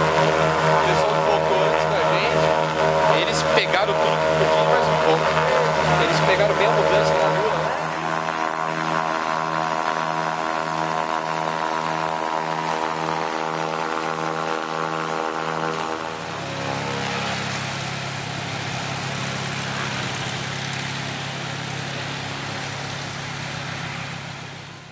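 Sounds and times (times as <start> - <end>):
engine droning: 0.0 - 24.9
low hum: 0.0 - 24.9
rough engine noise: 0.0 - 24.9.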